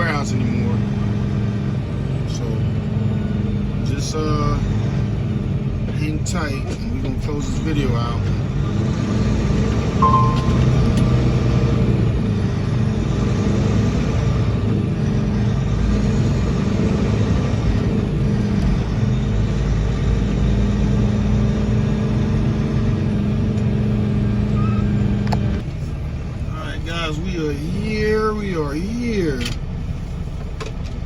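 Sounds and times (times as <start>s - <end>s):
truck diesel engine humming: 0.0s - 31.0s.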